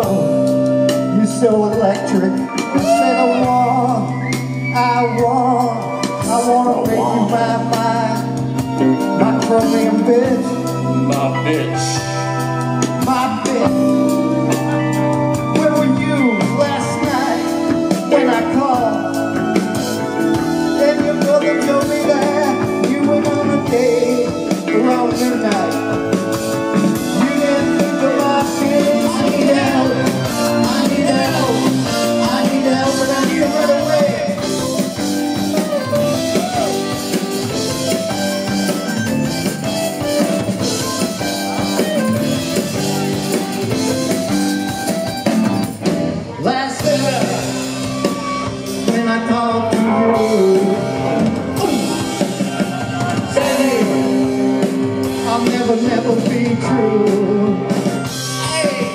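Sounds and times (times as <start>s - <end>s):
person singing: 0.0s - 38.1s, 46.3s - 58.9s
live rock band playing: 0.0s - 58.9s.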